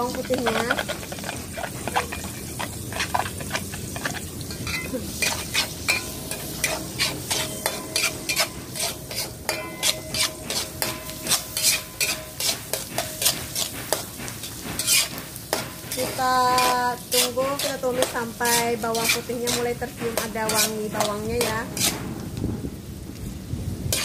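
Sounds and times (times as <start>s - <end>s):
spatula scraping pan: 0.0s - 22.4s
garlic sizzling in wok: 0.0s - 24.0s.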